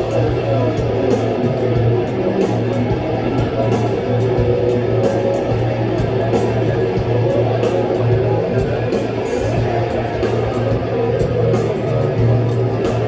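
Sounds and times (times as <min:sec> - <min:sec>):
bass line: 0:00.0 - 0:13.0
strummed electric guitars: 0:00.0 - 0:13.0.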